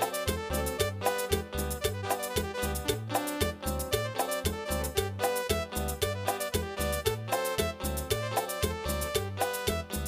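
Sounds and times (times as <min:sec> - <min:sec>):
latin dance music: 0:00.0 - 0:10.0.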